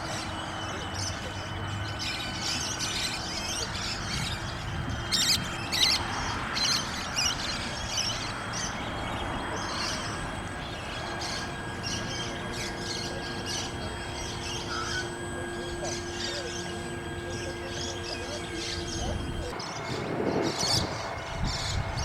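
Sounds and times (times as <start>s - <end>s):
faint steady hum: 0.0s - 22.0s
small birds chirping: 0.0s - 22.0s.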